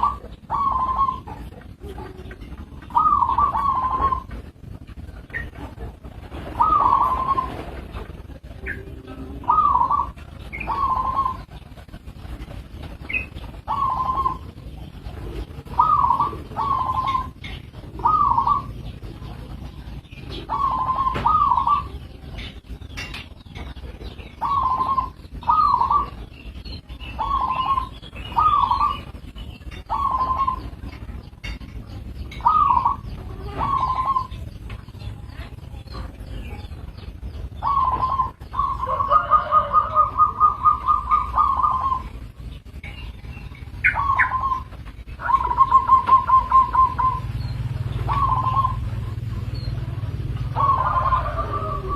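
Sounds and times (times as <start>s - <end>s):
dove cooing: 0.0s - 51.9s
small birds chirping: 0.0s - 51.9s.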